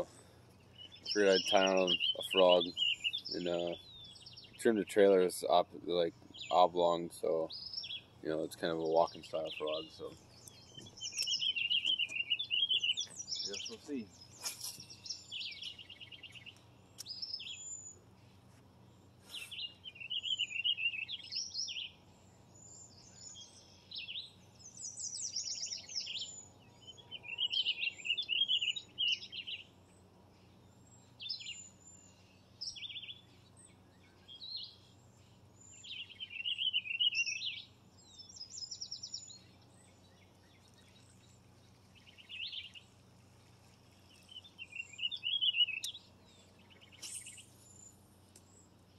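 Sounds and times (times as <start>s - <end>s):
faint low hum: 0.0s - 48.9s
songbirds singing: 0.0s - 48.9s.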